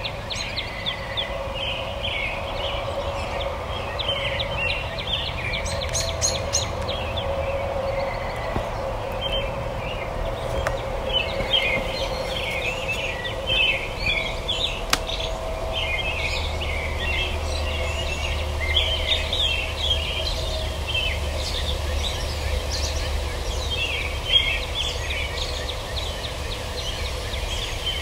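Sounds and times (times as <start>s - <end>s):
songbirds chirping and singing: 0.0s - 28.0s
steady low hum: 0.0s - 28.0s.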